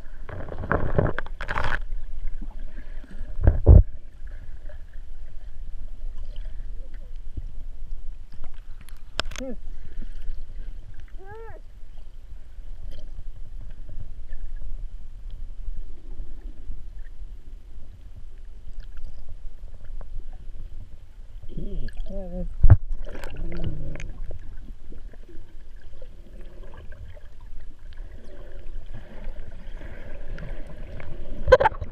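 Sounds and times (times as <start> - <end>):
underwater rumble of water: 0.0 - 31.9.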